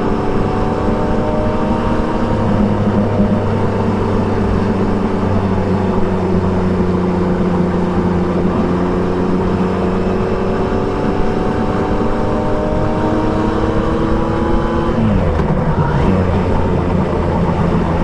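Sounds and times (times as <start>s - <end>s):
motorcycle engine pulling under load: 0.2s - 18.0s.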